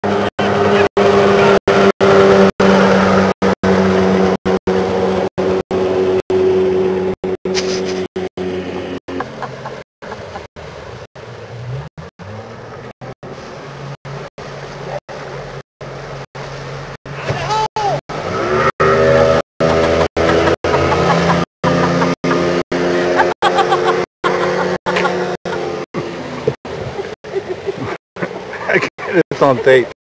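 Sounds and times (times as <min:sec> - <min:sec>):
motorboat engine droning: 0:00.0 - 0:30.0.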